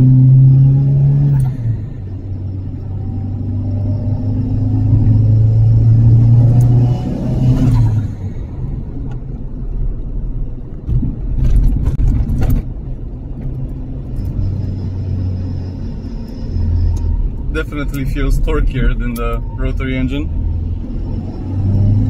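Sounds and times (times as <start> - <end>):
car engine pulling: 0.0 - 22.0
road and tyre noise: 0.0 - 22.0.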